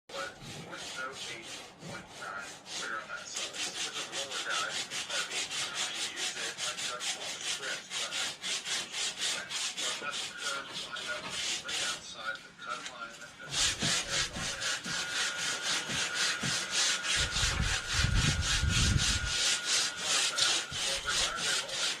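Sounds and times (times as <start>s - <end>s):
hand rubbing wooden panel: 0.1s - 12.0s, 13.4s - 22.0s.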